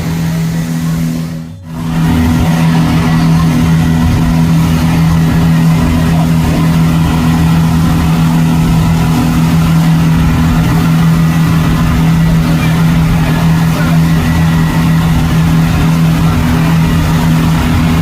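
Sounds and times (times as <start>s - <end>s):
speedboat engine humming: 0.0s - 18.0s.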